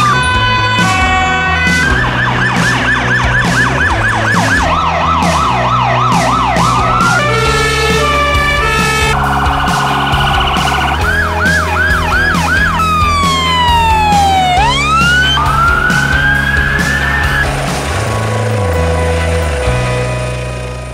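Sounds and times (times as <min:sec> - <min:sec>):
emergency vehicle siren: 0:00.0 - 0:20.4.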